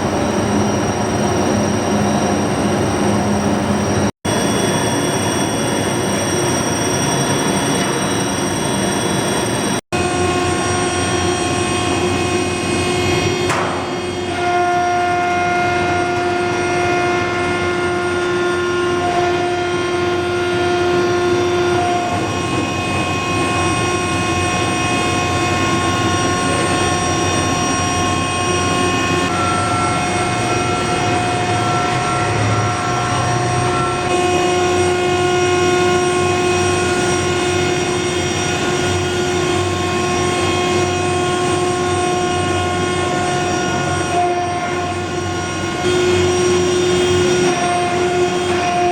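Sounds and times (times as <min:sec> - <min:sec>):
furnace mechanical roar: 0:00.0 - 0:48.9.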